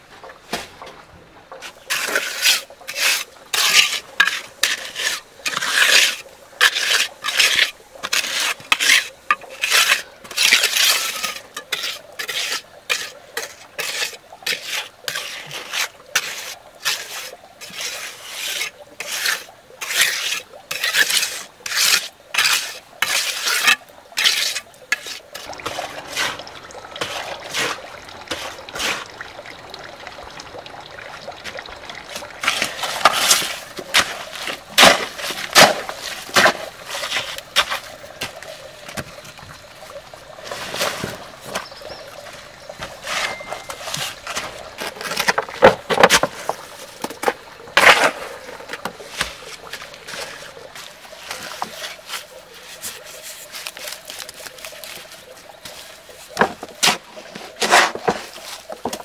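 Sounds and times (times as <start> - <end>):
trowel scraping mortar on stone: 1.9 - 29.1, 32.1 - 39.1, 42.8 - 59.0.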